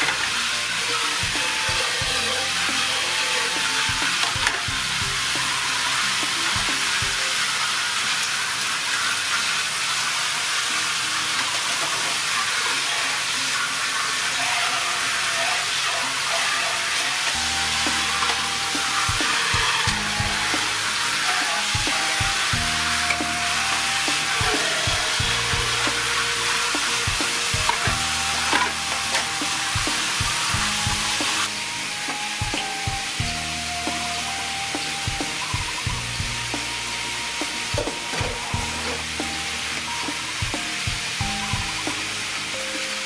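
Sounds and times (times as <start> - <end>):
water spray hissing into basin: 0.0 - 43.0.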